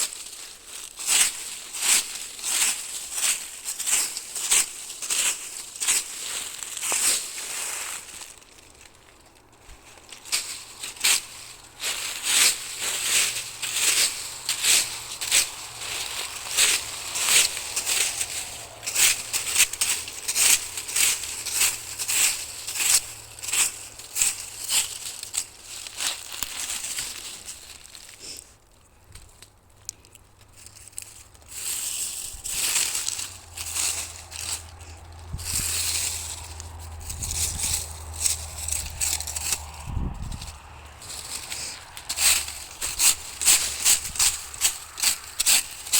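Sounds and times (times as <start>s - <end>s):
footsteps crunching on forest floor: 0.0s - 45.9s.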